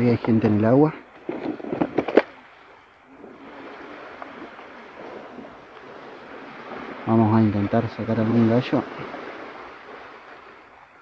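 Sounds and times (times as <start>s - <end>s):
small waves washing on sand: 0.0s - 11.0s.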